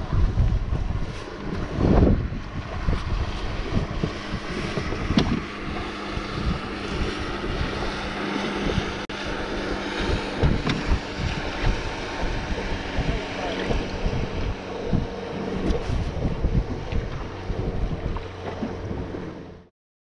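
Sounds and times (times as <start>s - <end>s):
wind buffeting microphone: 0.0s - 19.6s
choppy water: 0.0s - 19.7s
faint boat engine drone: 0.0s - 19.7s.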